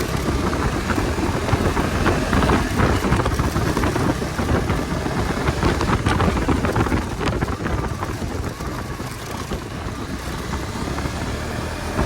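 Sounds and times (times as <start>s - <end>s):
vehicle exhaust engine running: 0.0s - 12.0s
wind buffeting microphone: 0.0s - 12.0s.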